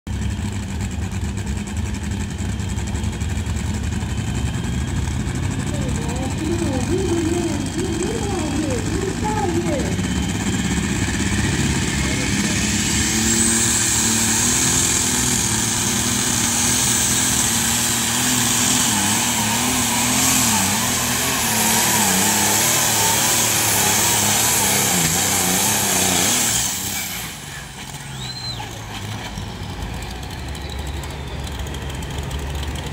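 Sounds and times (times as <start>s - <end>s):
tractor engine labouring: 0.1s - 32.9s.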